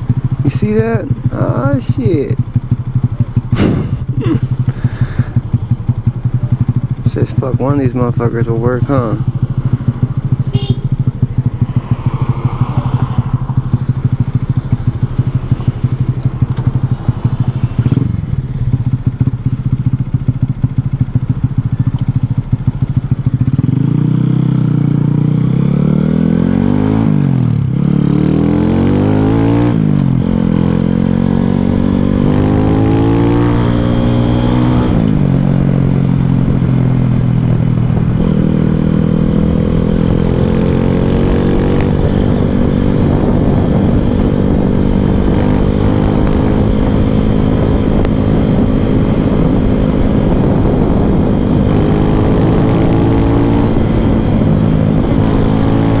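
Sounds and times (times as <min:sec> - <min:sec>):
motorbike engine idling and revving: 0:00.0 - 0:56.0.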